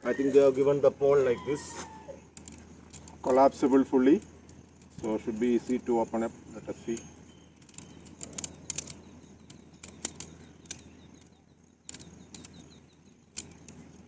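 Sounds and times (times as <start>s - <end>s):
tent pole sections clicking: 0.0s - 14.0s.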